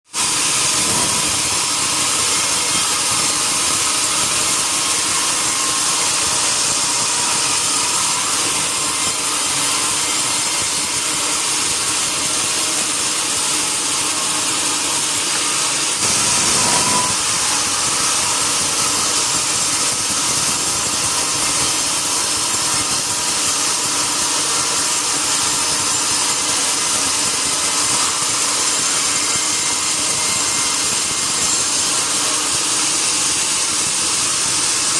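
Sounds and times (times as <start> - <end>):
saw cutting through log: 0.0 - 34.9.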